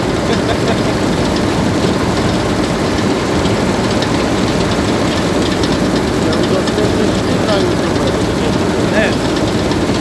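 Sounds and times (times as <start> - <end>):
combine harvester running: 0.0 - 10.0
light rattling: 0.2 - 10.0.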